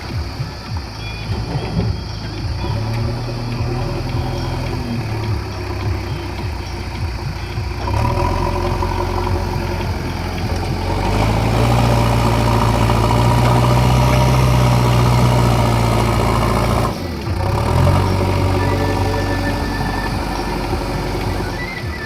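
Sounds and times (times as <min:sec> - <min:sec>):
backhoe loader diesel engine running: 0:00.0 - 0:22.0.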